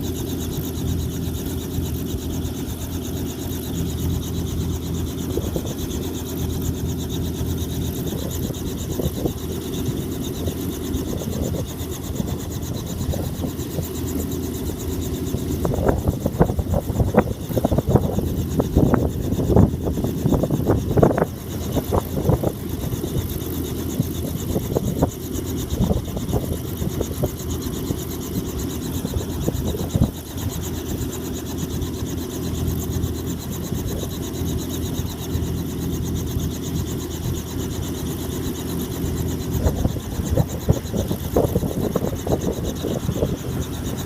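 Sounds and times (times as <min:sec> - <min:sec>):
helicopter idling: 0:00.0 - 0:44.0.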